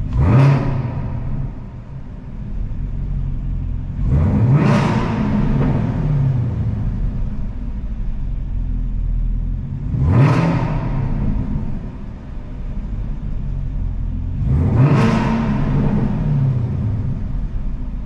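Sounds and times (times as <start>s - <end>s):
engine revving: 0.0s - 2.9s, 3.7s - 7.8s, 9.6s - 18.0s
car engine idling: 0.0s - 18.0s.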